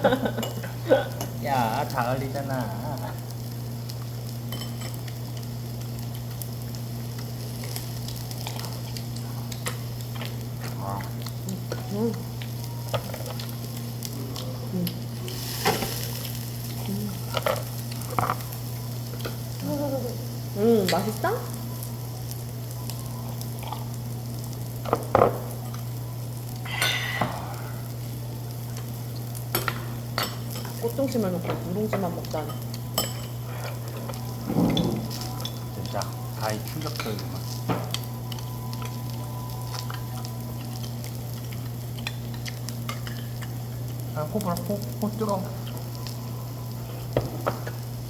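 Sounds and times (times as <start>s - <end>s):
food sizzling on a grill: 0.0s - 48.0s
steady low hum: 0.0s - 48.0s.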